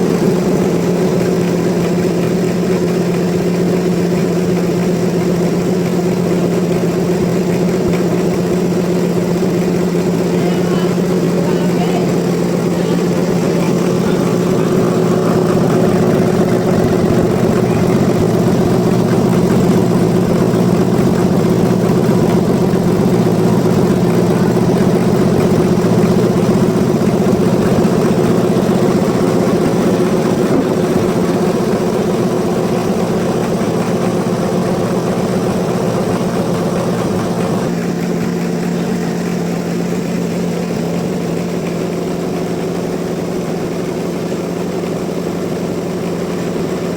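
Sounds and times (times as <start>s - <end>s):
sawmill machinery engine running: 0.0s - 46.9s.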